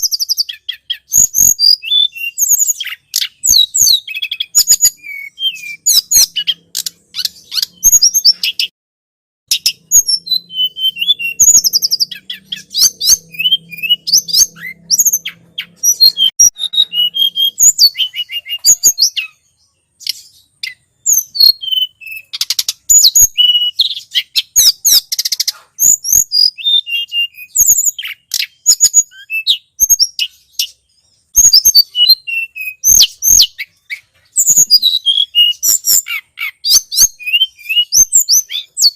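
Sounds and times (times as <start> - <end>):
songbird chirping and trilling: 0.0 - 8.8, 9.5 - 38.9.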